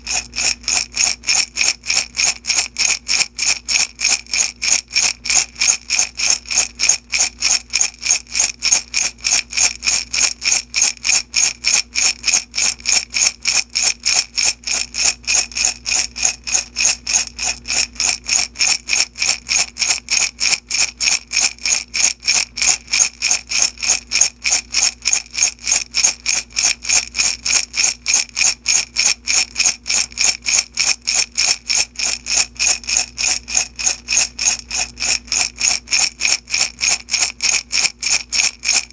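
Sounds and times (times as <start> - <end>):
beads rattling in a glass jar: 0.0 - 38.9.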